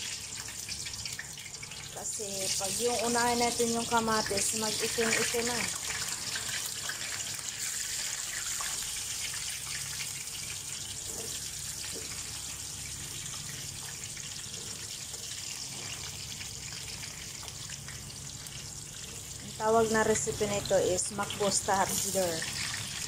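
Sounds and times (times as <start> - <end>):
potatoes sizzling in hot oil: 0.0 - 23.0.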